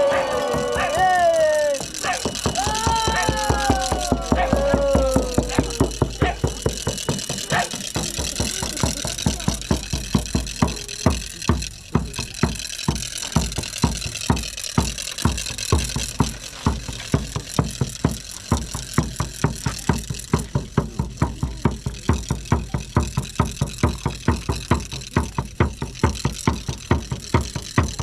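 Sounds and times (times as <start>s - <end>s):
drum beaten fast: 0.0s - 28.0s.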